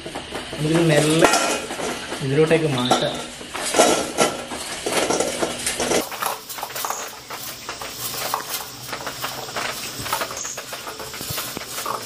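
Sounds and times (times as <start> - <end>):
charcoal clattering into metal pan: 0.0 - 12.0.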